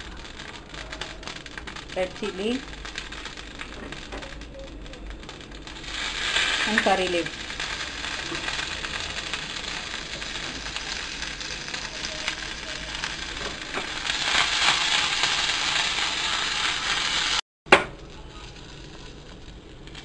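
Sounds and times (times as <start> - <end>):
spices sizzling in hot oil: 0.0 - 20.0.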